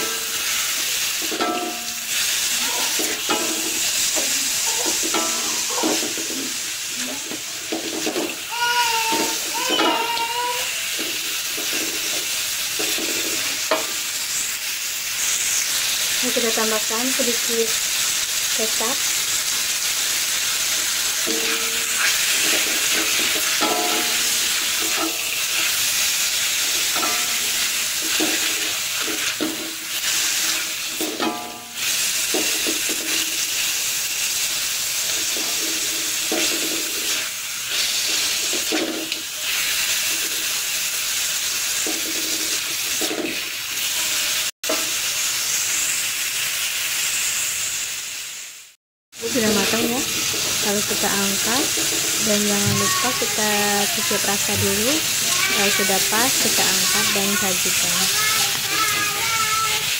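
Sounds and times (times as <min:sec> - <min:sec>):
fish sizzling in a wok: 0:00.0 - 0:59.9.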